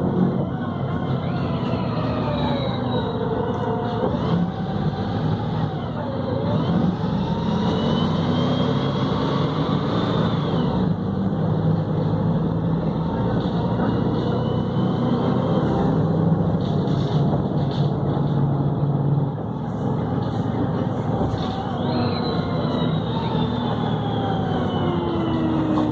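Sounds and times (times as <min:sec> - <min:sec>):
bus diesel engine running: 0:00.0 - 0:25.9.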